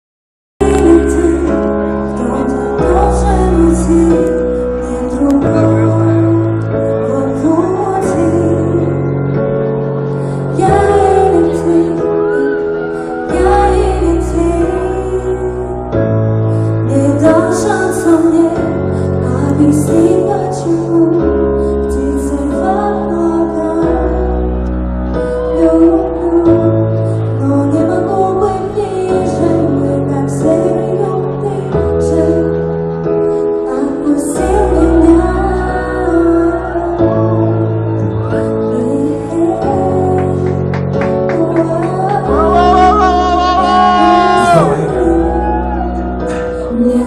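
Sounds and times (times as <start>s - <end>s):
woman singing into a microphone: 0.6s - 9.4s, 10.1s - 47.0s
bass and keyboard chords: 0.6s - 47.0s.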